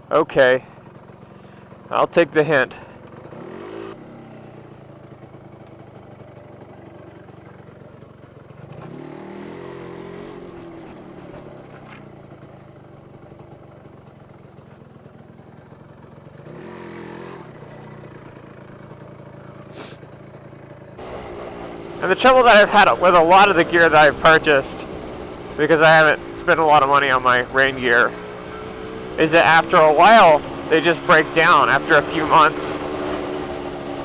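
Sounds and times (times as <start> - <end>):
two-stroke motorcycle engine revving: 0.3 - 34.0.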